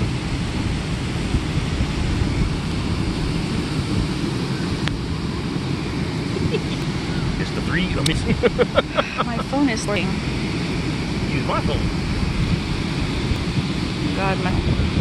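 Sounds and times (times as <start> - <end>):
breaking surf: 0.0 - 15.0
wind buffeting microphone: 0.0 - 15.0.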